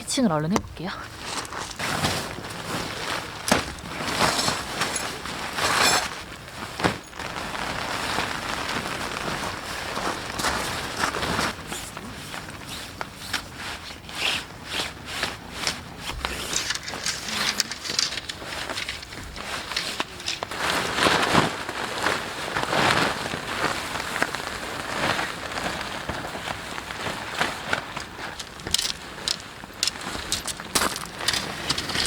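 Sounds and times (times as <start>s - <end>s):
crackling rustles: 0.4s - 32.0s.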